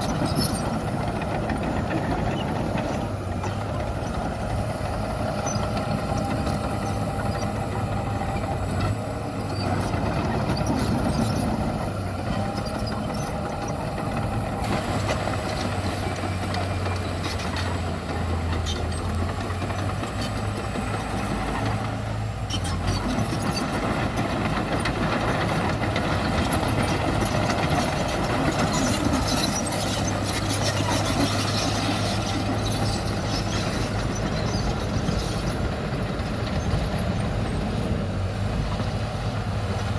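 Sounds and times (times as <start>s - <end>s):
heavy machinery engines humming: 0.0s - 39.9s.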